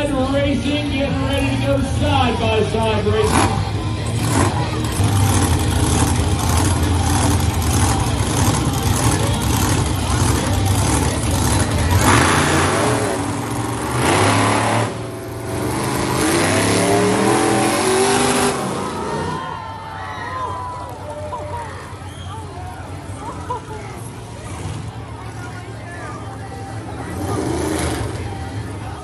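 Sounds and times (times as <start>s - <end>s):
monster truck engine revving: 0.0s - 19.6s, 21.6s - 29.0s.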